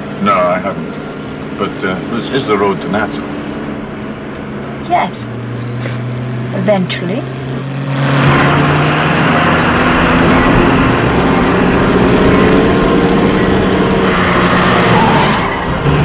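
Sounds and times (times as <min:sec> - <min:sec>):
car engine running hard: 0:00.0 - 0:16.0
road and wind noise: 0:00.0 - 0:16.0.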